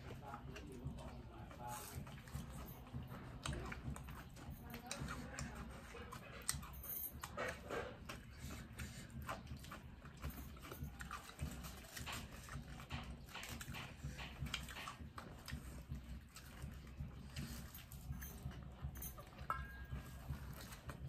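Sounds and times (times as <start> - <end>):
people chewing and crunching: 0.0 - 21.0.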